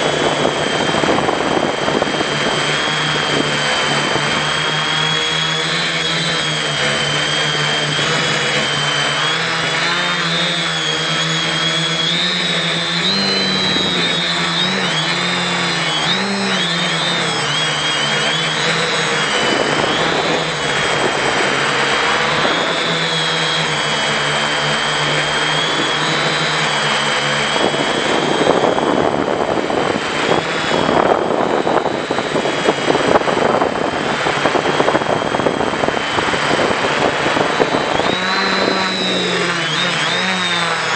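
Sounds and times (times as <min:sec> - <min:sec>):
quadcopter motors droning: 0:00.0 - 0:40.9.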